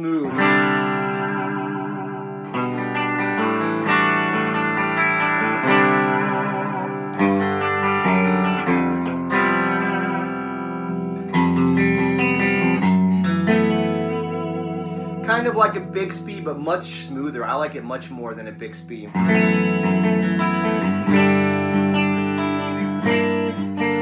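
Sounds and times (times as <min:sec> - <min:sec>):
electric guitar chords: 0:00.0 - 0:24.0.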